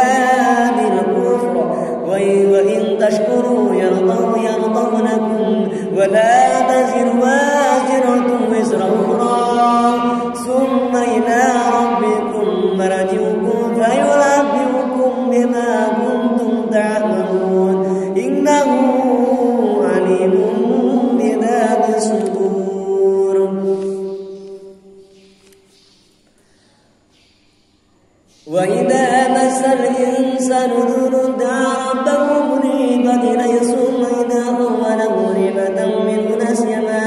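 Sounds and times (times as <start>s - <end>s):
man chanting melodically: 0.0s - 37.0s.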